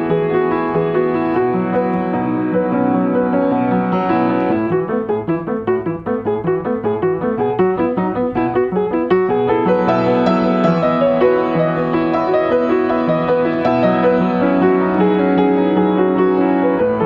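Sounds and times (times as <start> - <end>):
solo upright piano: 0.0 - 17.0.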